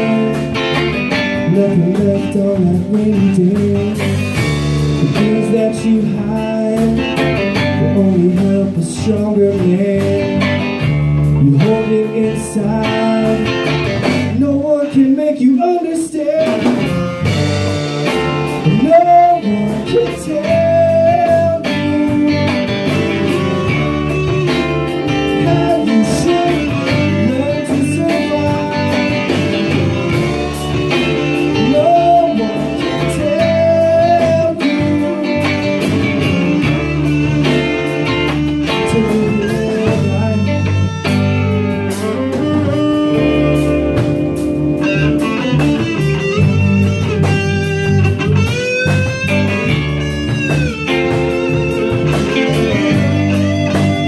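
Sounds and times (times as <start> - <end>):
lead guitar bending notes: 0.0 - 14.9, 15.6 - 54.0
blues-rock band music: 0.0 - 54.0.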